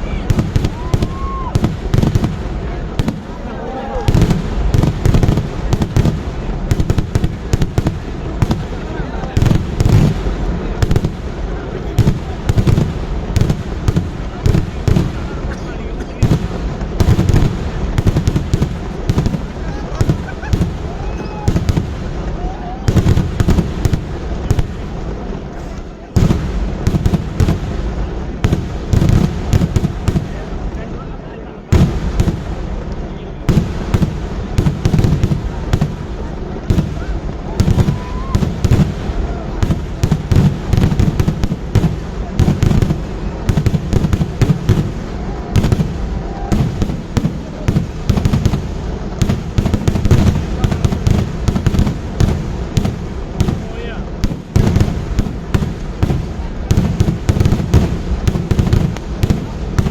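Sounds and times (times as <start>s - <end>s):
fireworks banging: 0.0s - 59.9s
low rumble of blasts: 0.0s - 59.9s.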